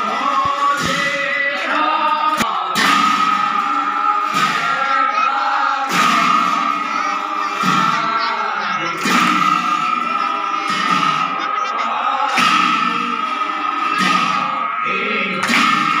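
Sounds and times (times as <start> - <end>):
bright rhythmic accent: 0.0 - 16.0
group of men chanting: 0.0 - 16.0.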